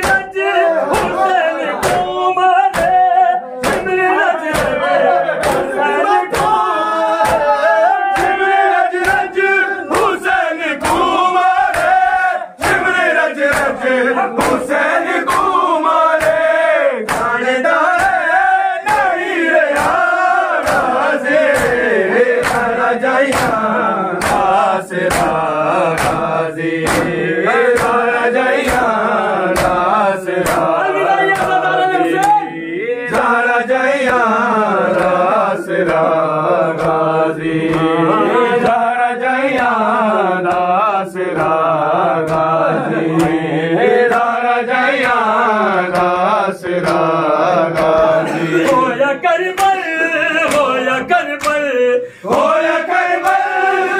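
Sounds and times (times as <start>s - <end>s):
hands slapping chests: 0.0s - 32.5s, 33.1s - 51.7s, 52.3s - 53.8s
men chanting together: 0.0s - 53.9s.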